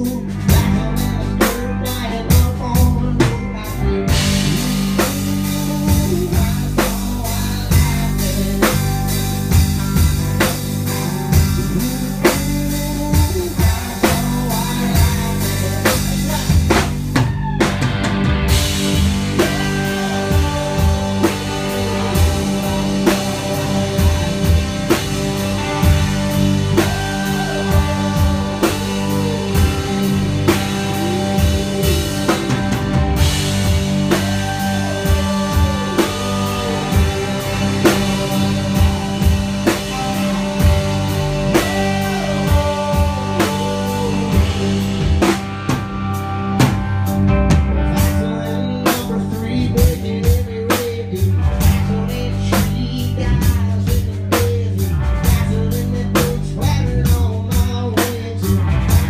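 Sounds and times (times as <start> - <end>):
distorted electric guitars: 0.0 - 59.0
drum kit beat: 0.0 - 59.0.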